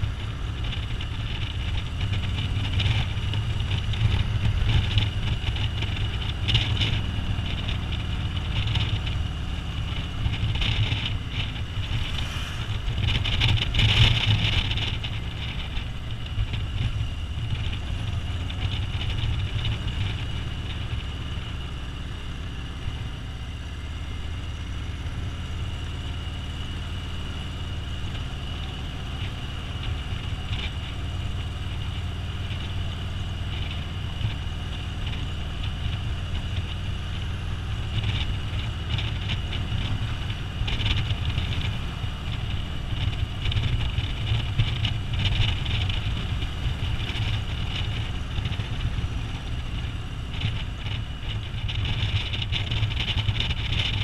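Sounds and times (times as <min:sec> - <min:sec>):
wind noise: 0:00.0 - 0:21.3, 0:29.7 - 0:54.0
motorcycle engine rumble: 0:00.0 - 0:54.0.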